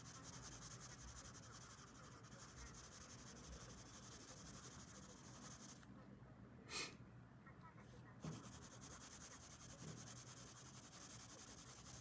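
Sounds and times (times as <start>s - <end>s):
pencil scratching on paper: 0.0s - 5.8s, 8.2s - 12.0s.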